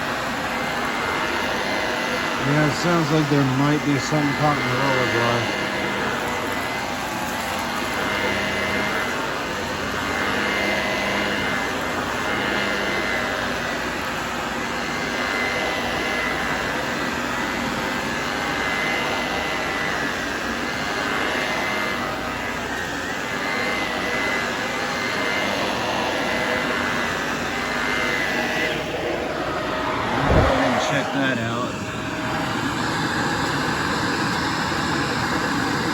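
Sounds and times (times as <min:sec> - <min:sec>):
vacuum cleaner running with whine: 0:00.0 - 0:35.9.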